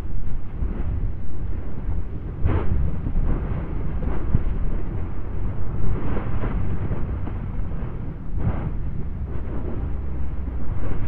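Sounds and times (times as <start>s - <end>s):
deep volcanic rumble: 0.0s - 11.0s.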